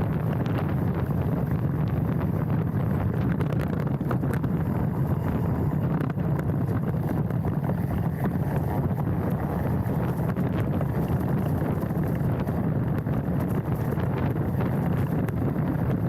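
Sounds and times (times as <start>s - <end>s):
wind rush on microphone: 0.0s - 16.0s
bike clicks and rattles: 0.2s - 16.0s.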